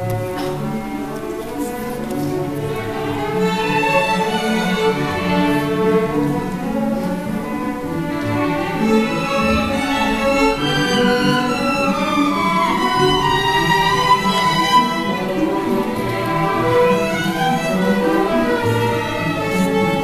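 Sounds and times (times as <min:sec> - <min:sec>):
string orchestra playing: 0:00.0 - 0:20.0.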